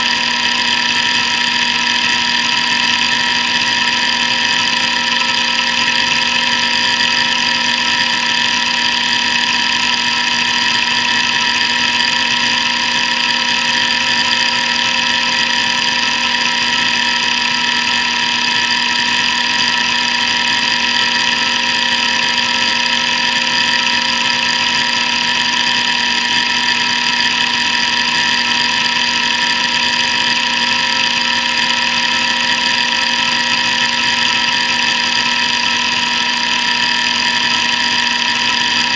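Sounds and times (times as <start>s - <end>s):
hard drive motor whine: 0.0s - 38.9s.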